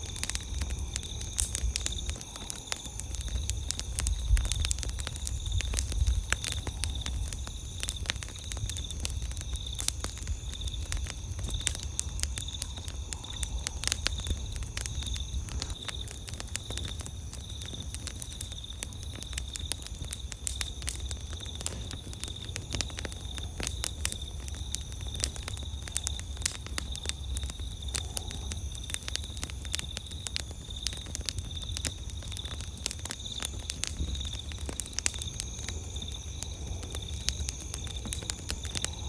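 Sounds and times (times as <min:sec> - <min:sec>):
campfire crackling and popping: 0:00.0 - 0:39.0
night insects chirring: 0:00.0 - 0:39.0.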